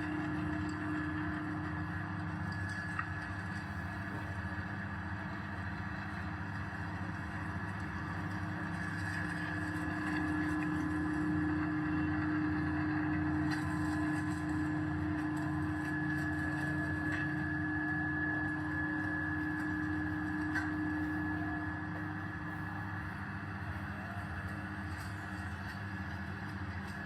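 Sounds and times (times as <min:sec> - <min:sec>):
grinding mill motor hum and whine: 0:00.0 - 0:27.0.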